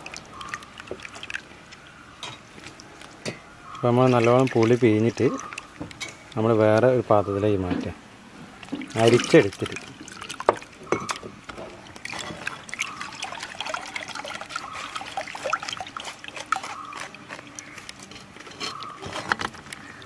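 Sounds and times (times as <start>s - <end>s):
water dripping through strainer: 0.0s - 20.0s.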